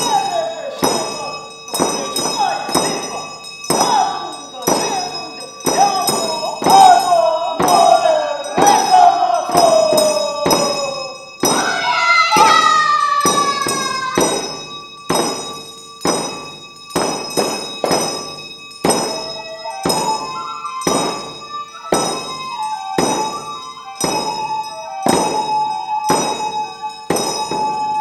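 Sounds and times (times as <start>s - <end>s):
high ringing bells: 0.0s - 28.0s.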